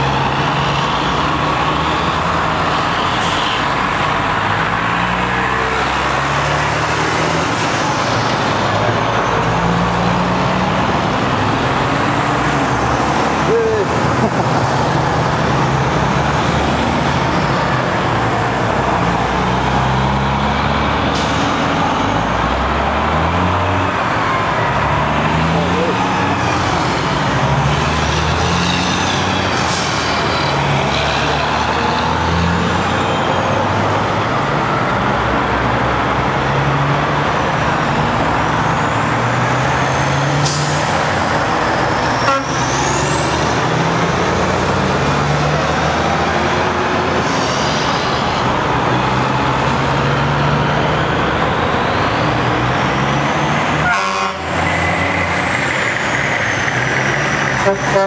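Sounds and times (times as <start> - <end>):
truck engines driving past: 0.0 - 58.0.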